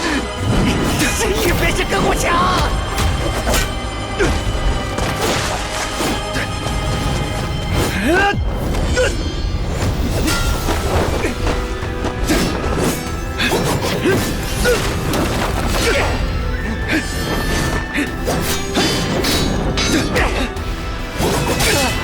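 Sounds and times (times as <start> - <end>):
soundtrack music: 0.0 - 22.0.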